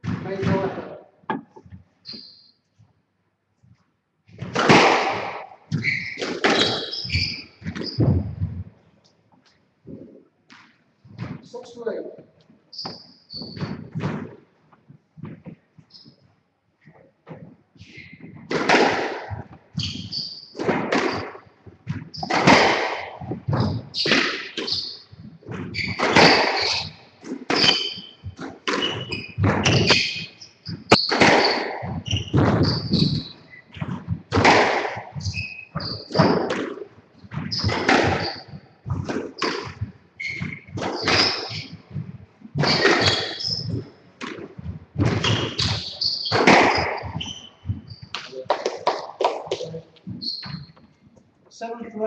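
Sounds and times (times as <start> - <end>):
squash ball hitting rackets and walls: 0.0 - 2.3, 4.3 - 8.7, 12.7 - 14.5, 16.9 - 50.8.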